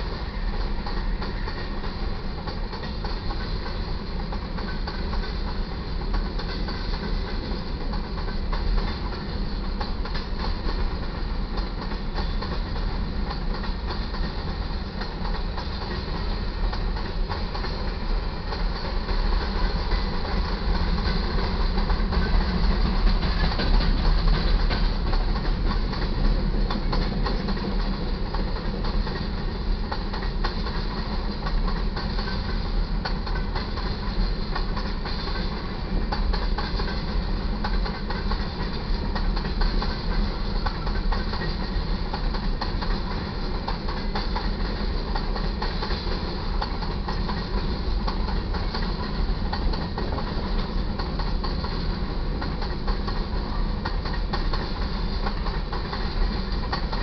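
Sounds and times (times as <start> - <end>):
train wheels rumbling on rails: 0.0 - 57.0
wheels clickety-clack over joints: 0.0 - 57.0.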